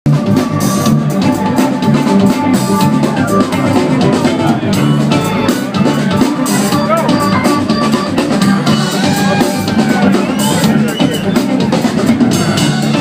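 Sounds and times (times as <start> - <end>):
drum kit with cymbals: 0.1 - 13.0
electric bass: 0.1 - 13.0
electric guitar: 0.1 - 13.0
live funk band: 0.1 - 13.0.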